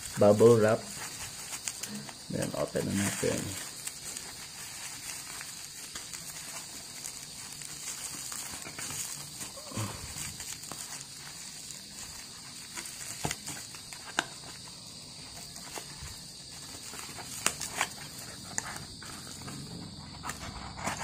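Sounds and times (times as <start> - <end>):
bubble wrap and plastic rustling: 0.0 - 21.0
sharp plastic crackles: 0.0 - 21.0.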